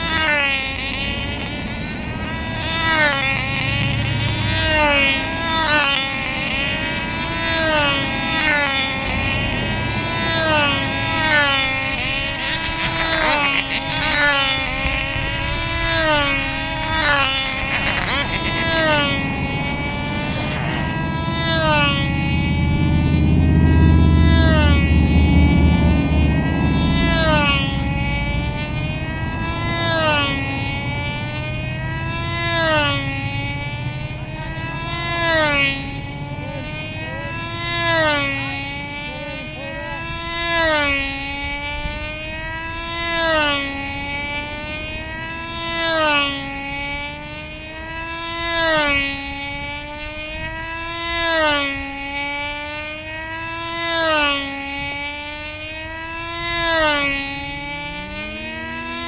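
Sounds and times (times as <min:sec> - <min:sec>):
model aircraft engine buzzing: 0:00.0 - 0:59.0.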